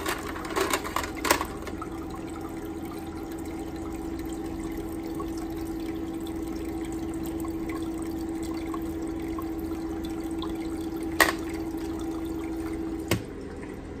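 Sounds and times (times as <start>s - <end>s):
ice maker humming: 0.0s - 14.0s
water trickling: 0.0s - 14.0s.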